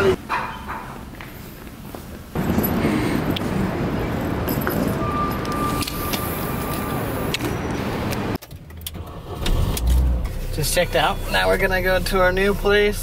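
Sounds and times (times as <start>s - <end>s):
passing traffic: 0.0s - 13.0s
car engine starting: 2.4s - 13.0s.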